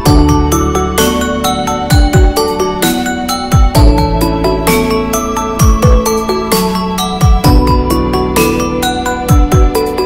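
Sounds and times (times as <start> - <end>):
electronic music with bell-like notes: 0.0 - 10.0.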